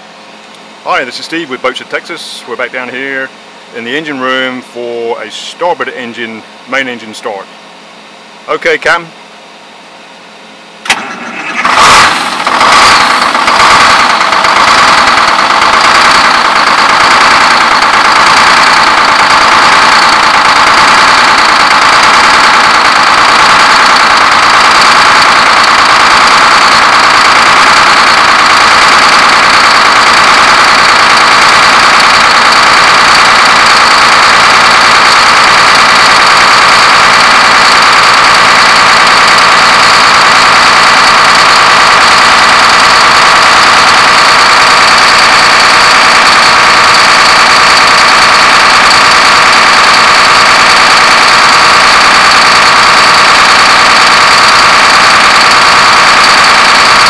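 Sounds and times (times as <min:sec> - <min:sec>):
diesel engine starting and idling: 0:00.0 - 0:07.8, 0:10.8 - 0:57.0.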